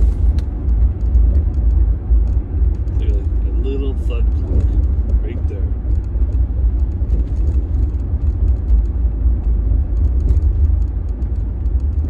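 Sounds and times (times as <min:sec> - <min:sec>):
road noise rumble inside truck cab: 0:00.0 - 0:12.0
suspension rattle: 0:00.0 - 0:12.0
suspension ticks and knocks: 0:00.0 - 0:12.0.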